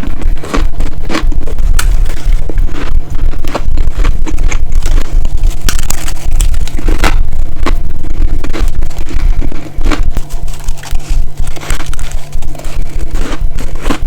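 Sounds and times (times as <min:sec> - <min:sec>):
deep chewing rumble: 0:00.0 - 0:14.0
ice crunching: 0:00.0 - 0:14.0.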